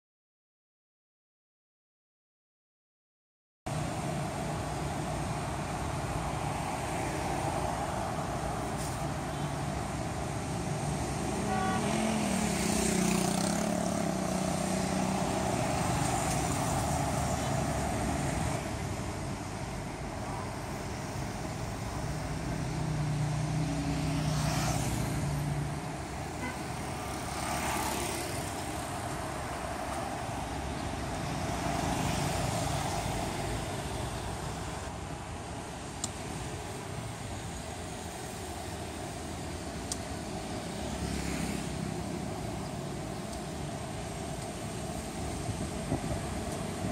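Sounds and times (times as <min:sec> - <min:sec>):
road traffic passing: 0:03.7 - 0:46.9
tyres on asphalt: 0:03.7 - 0:46.9.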